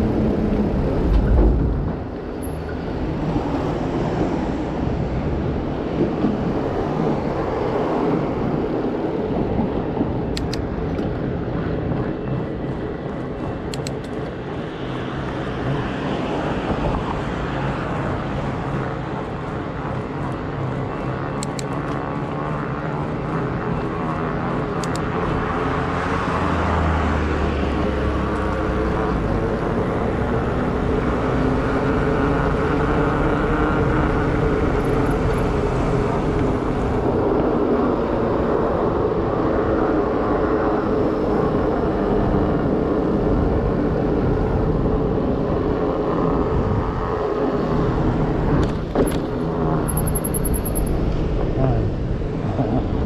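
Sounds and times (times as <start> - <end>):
passing car traffic: 0.0 - 53.0
wind on microphone: 0.0 - 53.0.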